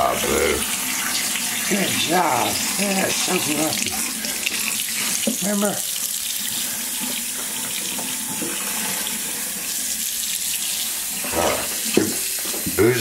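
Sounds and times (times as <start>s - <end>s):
faucet running into a sink: 0.0s - 13.0s.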